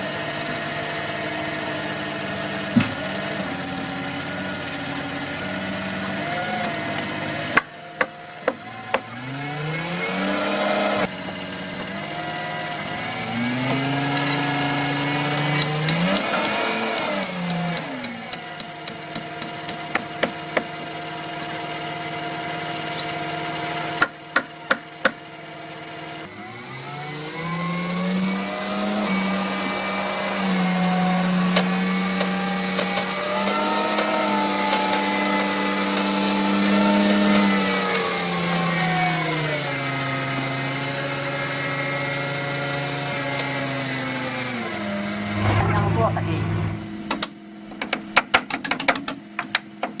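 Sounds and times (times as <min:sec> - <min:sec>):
engine running: 0:00.0 - 0:48.2.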